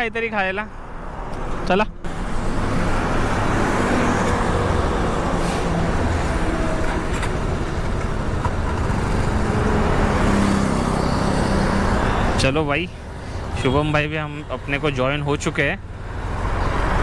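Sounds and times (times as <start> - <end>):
traffic: 0.0 - 17.0.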